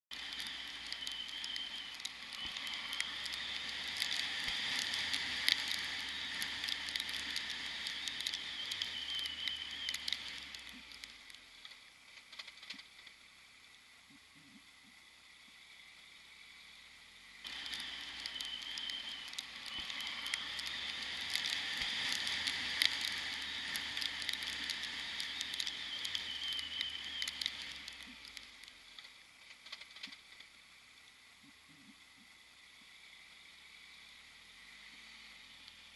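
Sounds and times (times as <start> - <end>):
rain and wind on microphone: 0.1 - 35.9.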